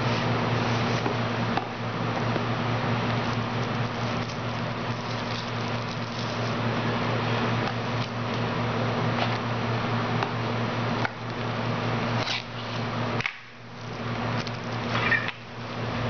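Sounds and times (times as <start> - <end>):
steady hum and hiss: 0.0 - 16.0.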